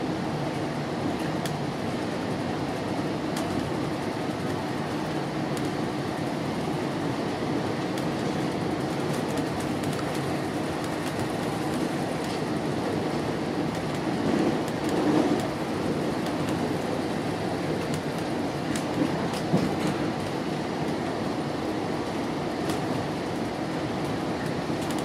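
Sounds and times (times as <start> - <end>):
train coach running rumble: 0.0 - 25.0.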